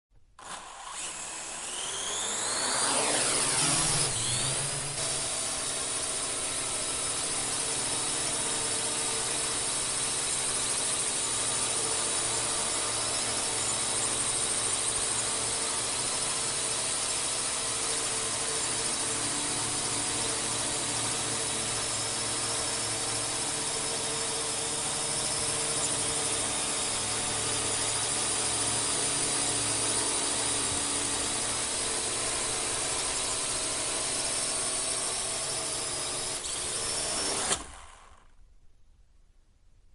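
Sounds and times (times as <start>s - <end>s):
drone propellers whirring: 0.4s - 10.9s, 11.7s - 38.2s.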